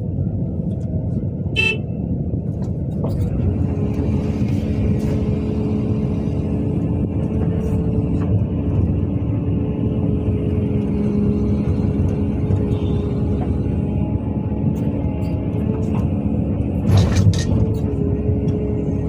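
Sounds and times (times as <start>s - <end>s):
diesel excavator engine running: 0.0s - 19.0s.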